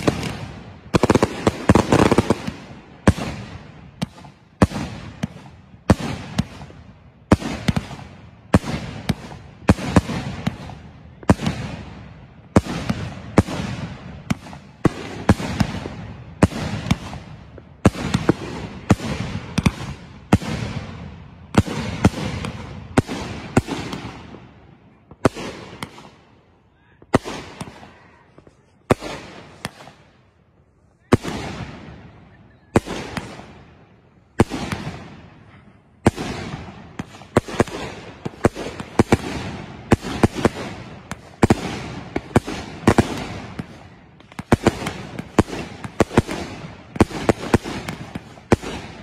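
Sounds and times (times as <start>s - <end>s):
fireworks booming: 0.0s - 26.3s, 26.9s - 49.0s.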